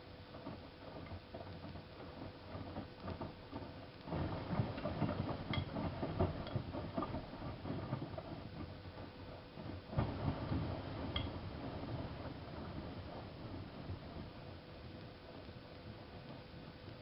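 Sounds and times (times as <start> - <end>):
faint steady hum: 0.0 - 17.0
washing machine drum tumbling laundry: 0.0 - 17.0.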